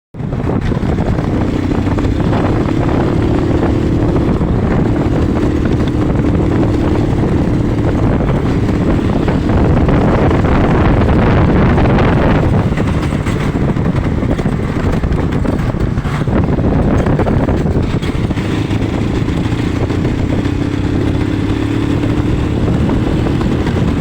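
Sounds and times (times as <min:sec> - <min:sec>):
motorcycle engine running: 0:00.2 - 0:24.0.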